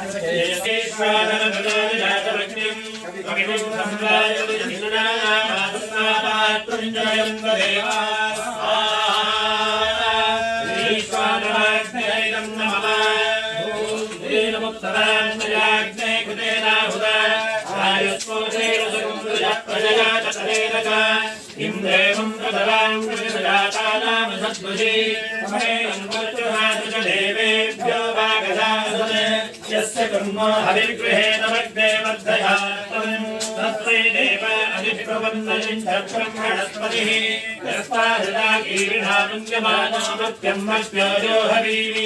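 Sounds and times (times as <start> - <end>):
voices chanting: 0.0 - 42.0.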